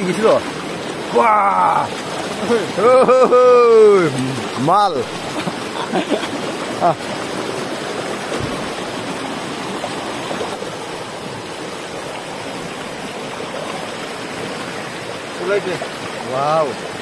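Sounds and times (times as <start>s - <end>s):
stream rushing over stones: 0.0s - 17.0s.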